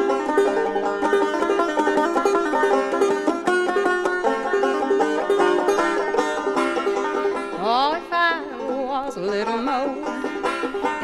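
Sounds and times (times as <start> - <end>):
banjo picking rapid notes: 0.0 - 11.0.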